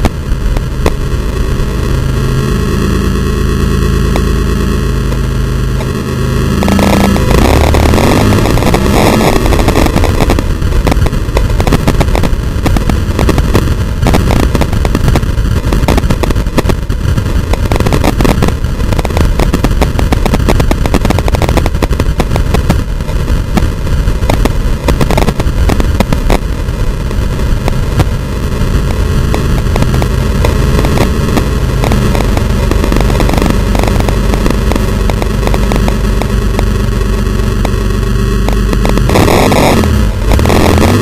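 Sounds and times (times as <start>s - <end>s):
distorted wind noise: 0.0s - 41.0s
truck road noise: 0.0s - 41.0s.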